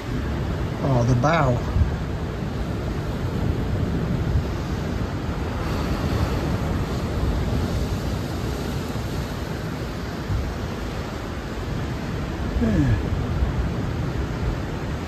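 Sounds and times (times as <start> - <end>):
ship low rumble: 0.0 - 15.0
wind buffeting microphone: 0.0 - 15.0.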